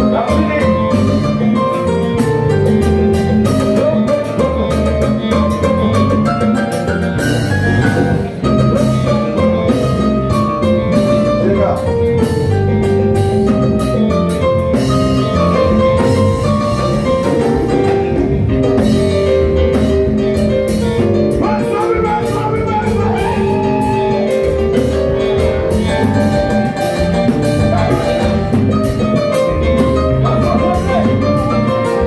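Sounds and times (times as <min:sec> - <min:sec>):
bass guitar: 0:00.0 - 0:32.0
congas: 0:00.0 - 0:32.0
drum kit: 0:00.0 - 0:32.0
electric guitar: 0:00.0 - 0:32.0
keyboard: 0:00.0 - 0:32.0.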